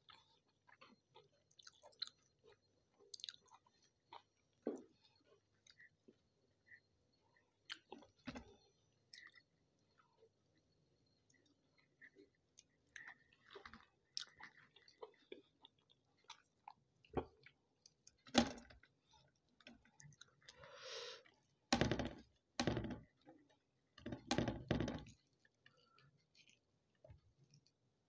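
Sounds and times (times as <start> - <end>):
man chewing with wet mouth clicks: 0.0 - 10.4, 11.0 - 21.6, 25.1 - 27.8.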